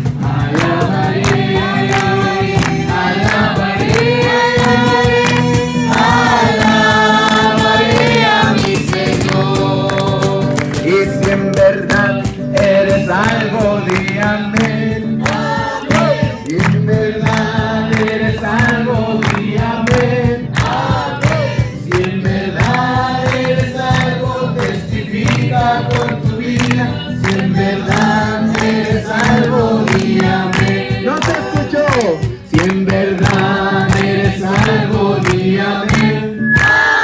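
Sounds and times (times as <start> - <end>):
group singing worship song: 0.0 - 37.0
steady rhythmic beat: 0.0 - 37.0.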